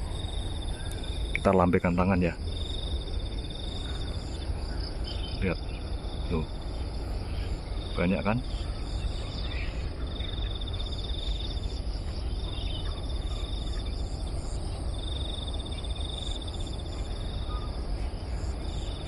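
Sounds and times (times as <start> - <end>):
insects trilling: 0.0 - 19.0
low outdoor rumble: 0.0 - 19.0.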